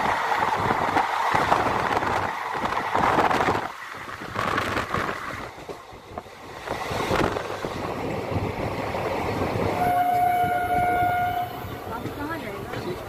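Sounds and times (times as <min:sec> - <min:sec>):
wind rushing on microphone: 0:00.0 - 0:12.2
train wheels rumbling: 0:00.0 - 0:13.0.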